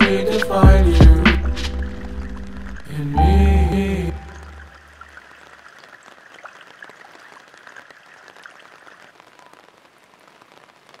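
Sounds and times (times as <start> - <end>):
steady rain falling: 0.0 - 3.2, 4.7 - 11.0.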